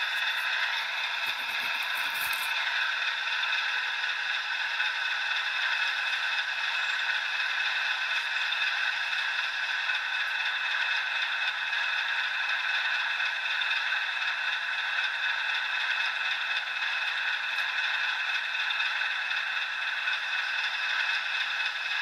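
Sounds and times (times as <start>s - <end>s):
diesel engine idling through small speaker: 0.0s - 22.0s.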